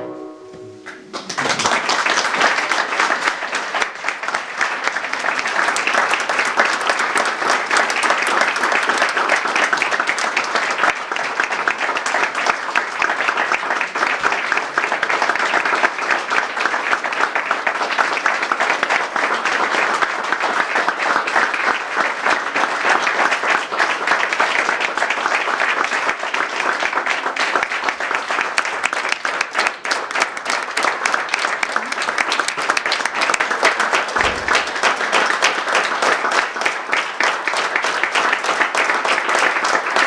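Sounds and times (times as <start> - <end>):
audience applauding: 0.8 - 40.0.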